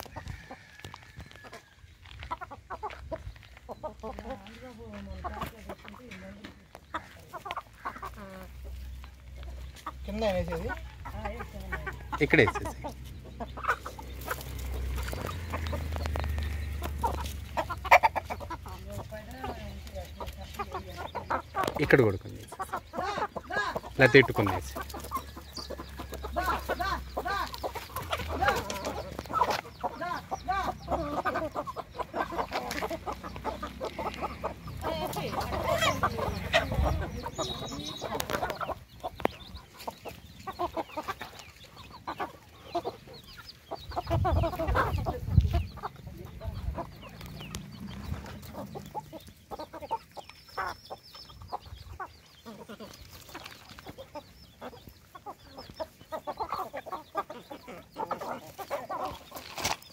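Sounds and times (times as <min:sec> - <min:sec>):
hens and roosters clucking: 0:00.0 - 0:59.9
pecks and scratches on dry ground: 0:00.0 - 0:59.9.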